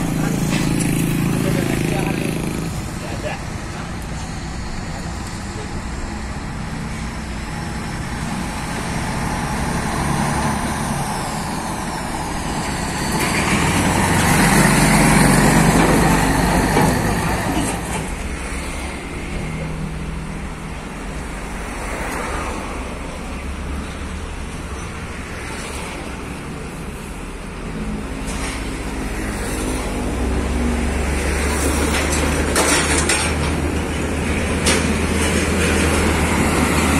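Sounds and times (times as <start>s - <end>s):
heavy truck diesel engine passing: 0.0s - 36.9s
road traffic: 0.0s - 36.9s.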